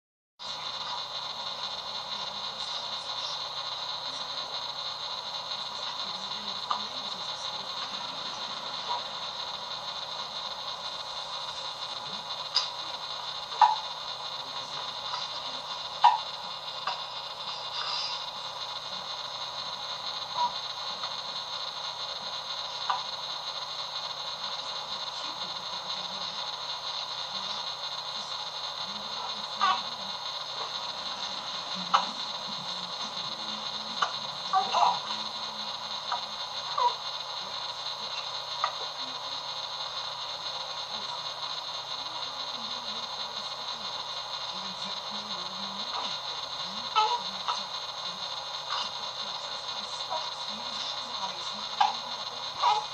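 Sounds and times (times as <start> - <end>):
steady hiss: 0.4 - 52.9.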